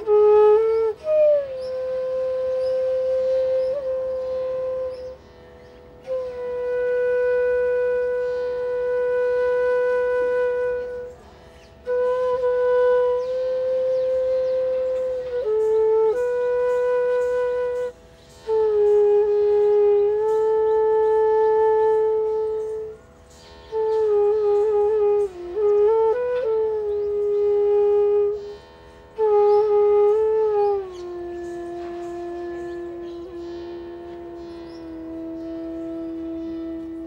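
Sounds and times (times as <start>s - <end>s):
solo flute playing slow notes: 0.0s - 37.0s.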